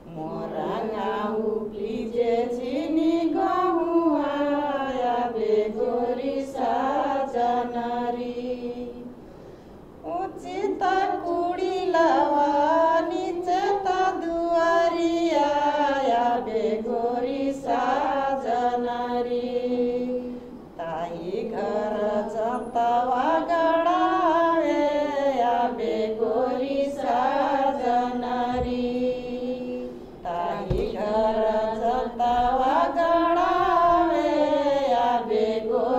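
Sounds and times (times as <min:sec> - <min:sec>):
woman singing unaccompanied: 0:00.0 - 0:09.2, 0:10.0 - 0:35.9.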